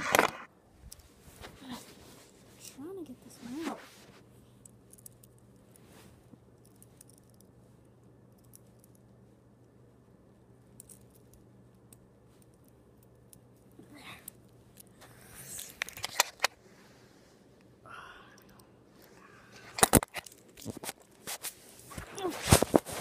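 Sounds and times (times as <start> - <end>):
handling clicks and rubs: 0.0 - 16.6, 18.5 - 23.0
faint low hum: 0.0 - 23.0.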